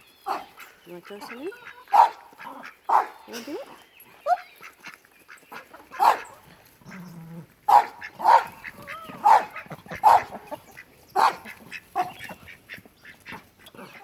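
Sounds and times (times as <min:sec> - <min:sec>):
animal calling: 0:00.0 - 0:14.0.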